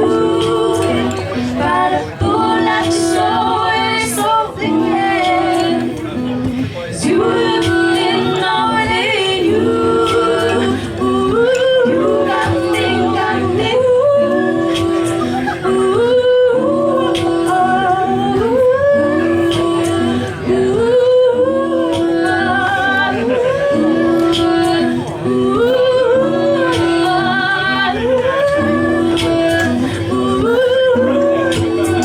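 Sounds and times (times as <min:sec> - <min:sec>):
wordless a cappella singing: 0:00.0 - 0:32.0.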